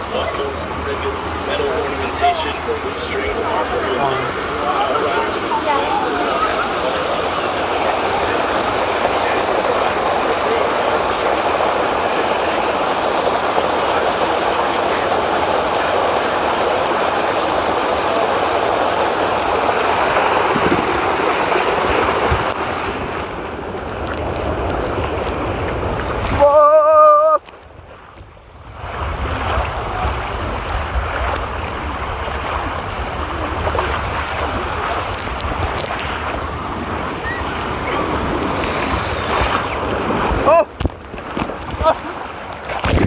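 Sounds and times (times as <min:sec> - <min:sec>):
water rushing down slide: 0:00.0 - 0:43.0.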